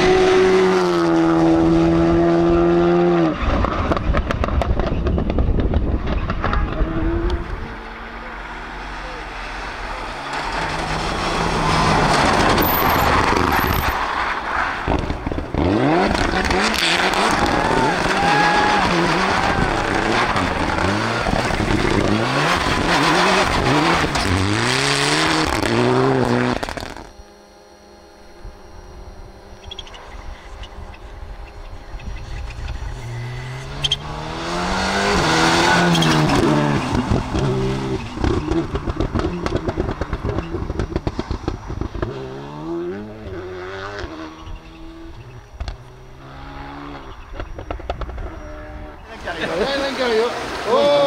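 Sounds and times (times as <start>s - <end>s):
engine humming: 0.0s - 51.0s
rally car engine revving: 0.0s - 51.0s.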